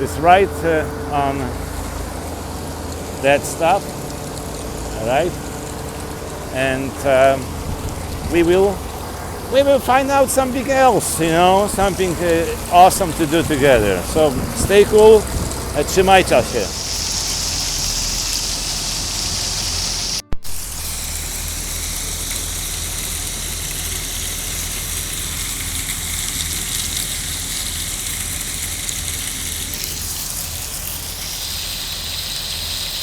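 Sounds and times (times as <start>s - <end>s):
engine running at low speed: 0.0s - 33.0s.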